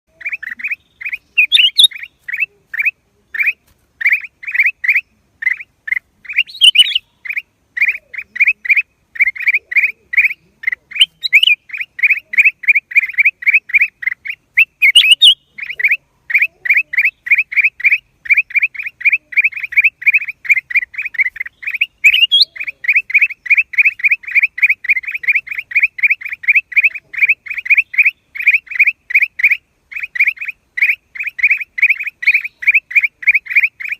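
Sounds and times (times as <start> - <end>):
bulbul calling: 0.1 - 33.9
higher sharper bird calls: 0.1 - 33.9.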